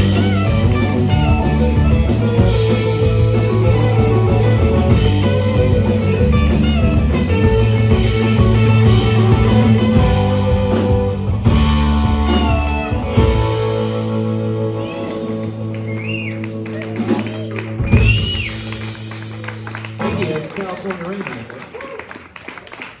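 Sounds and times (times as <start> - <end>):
electric guitar bent notes: 0.0 - 21.1
rock band playing: 0.0 - 23.0.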